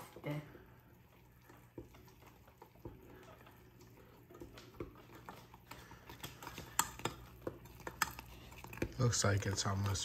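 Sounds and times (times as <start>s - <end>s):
spoon stirring batter: 0.0s - 10.0s.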